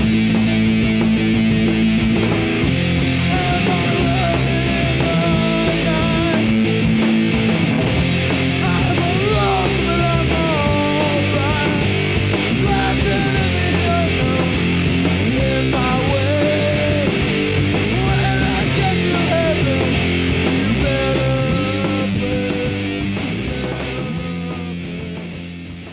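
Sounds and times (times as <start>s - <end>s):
loud hard rock music: 0.0s - 25.9s.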